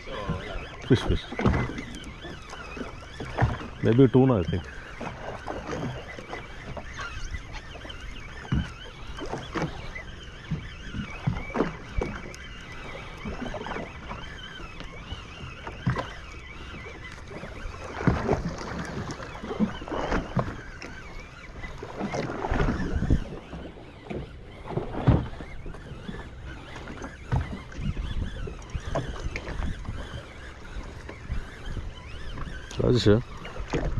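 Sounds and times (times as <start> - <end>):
steady water wash: 0.0 - 33.9
water slapping against boat: 0.0 - 33.9.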